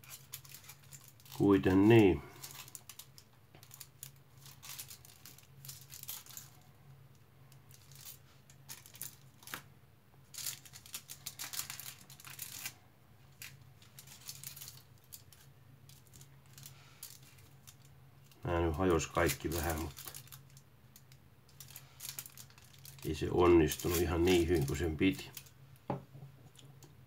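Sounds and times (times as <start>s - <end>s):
foil wrapper crinkling: 0.0s - 6.7s, 7.6s - 25.6s
low steady hum: 0.0s - 27.0s.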